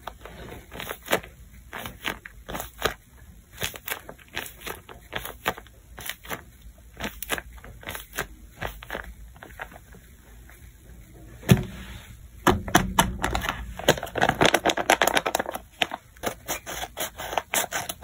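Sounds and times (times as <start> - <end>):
paper squishy crinkling: 0.0 - 10.7, 12.8 - 18.0.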